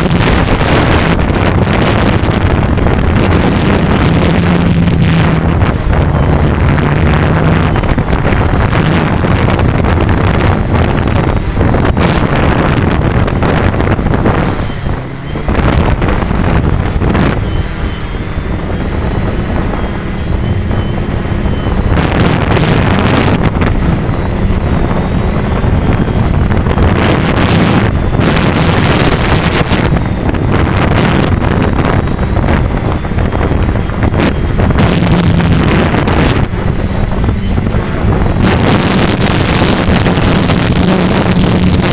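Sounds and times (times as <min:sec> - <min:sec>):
drone motors humming: 0:00.0 - 0:41.9
wind buffeting microphone: 0:00.0 - 0:41.9.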